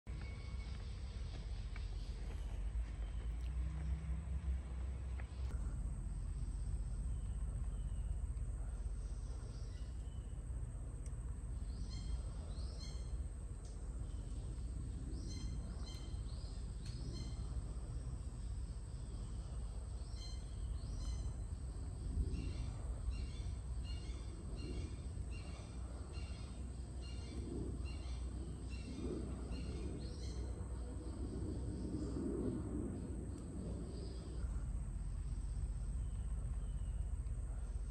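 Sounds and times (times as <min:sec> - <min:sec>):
low outdoor rumble: 0:00.1 - 0:37.9.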